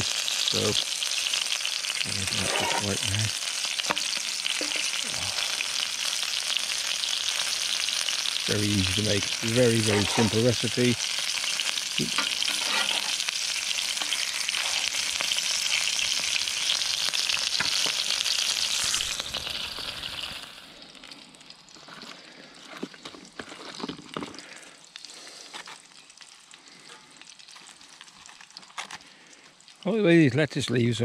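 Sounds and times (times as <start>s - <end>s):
meat sizzling in oil: 0.0s - 23.8s, 24.4s - 30.2s.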